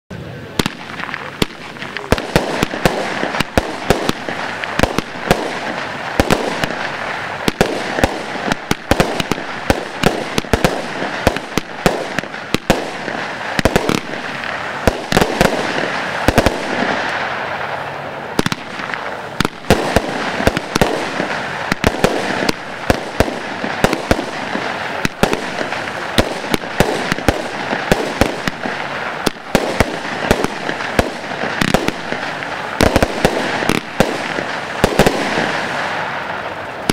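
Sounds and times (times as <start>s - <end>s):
hissing of burning stars: 0.2s - 36.9s
firework bangs: 0.4s - 36.9s.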